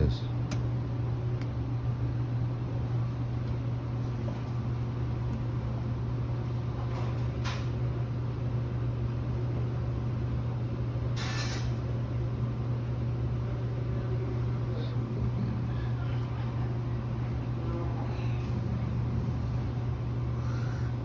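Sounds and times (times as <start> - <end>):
refrigeration unit humming: 0.0 - 21.0.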